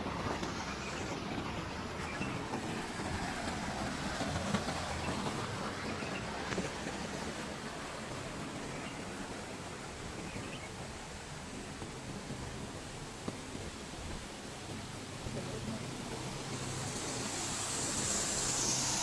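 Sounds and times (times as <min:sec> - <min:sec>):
rushing outdoor ambience: 0:00.0 - 0:19.0.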